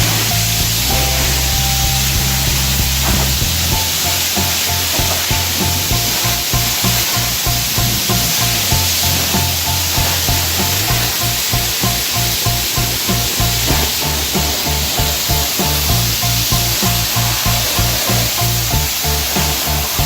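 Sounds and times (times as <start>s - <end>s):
background music with beat: 0.0s - 20.0s
pressure washer spraying water: 0.0s - 20.0s.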